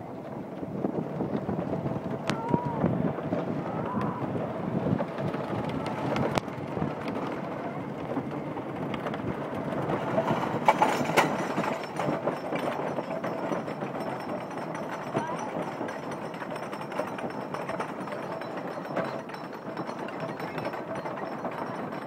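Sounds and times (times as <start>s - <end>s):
roller coaster track clacks: 0.0s - 22.0s
roller coaster wheels rumbling: 0.0s - 22.0s.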